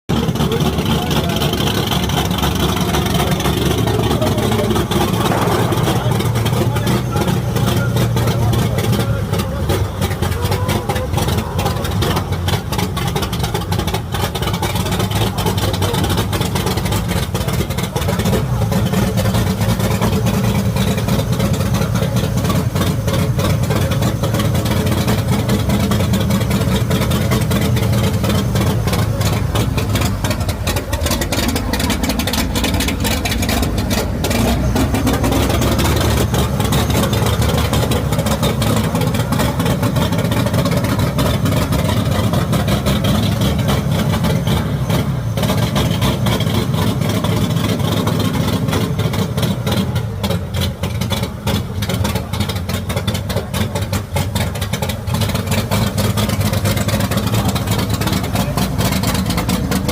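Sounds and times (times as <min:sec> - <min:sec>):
car engine idling: 0:00.1 - 0:59.9.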